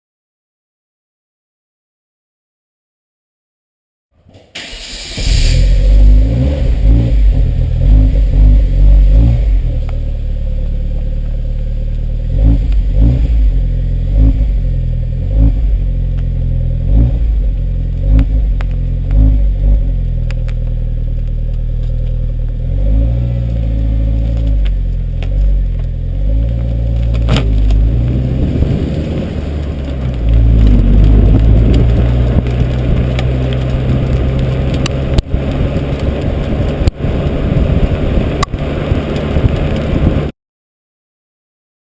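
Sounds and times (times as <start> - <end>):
car engine idling and revving: 4.6 - 40.3.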